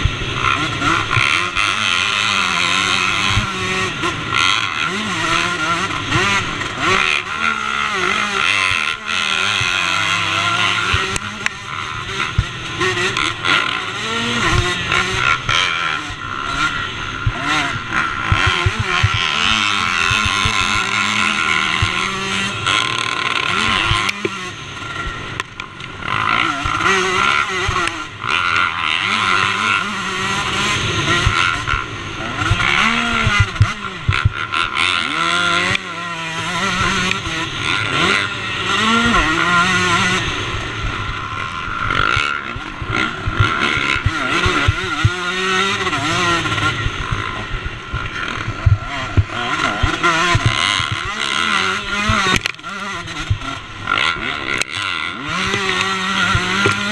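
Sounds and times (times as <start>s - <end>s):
motocross engine revving: 0.0s - 56.9s.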